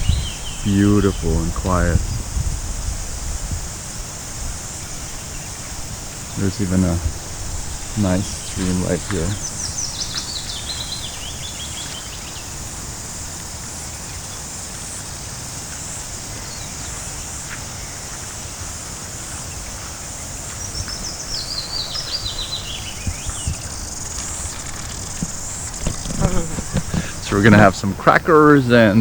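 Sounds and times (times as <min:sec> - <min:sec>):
songbird trilling: 0:00.0 - 0:28.0
high hiss: 0:00.0 - 0:29.0
small stream running: 0:00.0 - 0:29.0.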